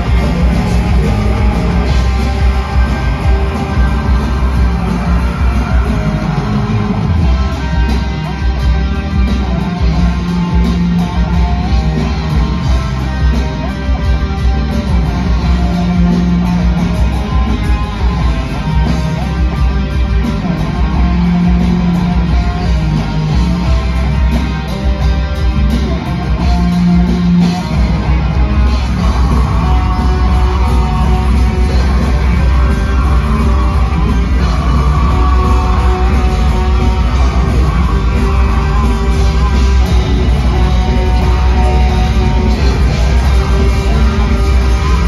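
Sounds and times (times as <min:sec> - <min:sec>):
heavy metal band playing: 0:00.0 - 0:45.0.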